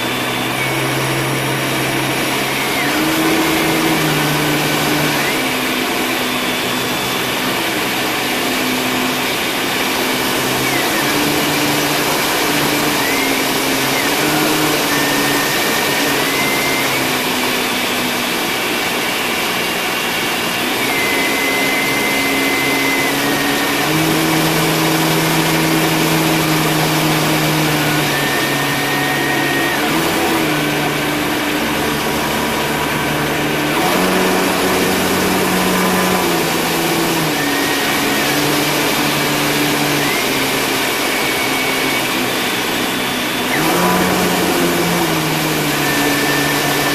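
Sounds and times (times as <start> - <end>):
model airplane engine running: 0.0 - 46.9.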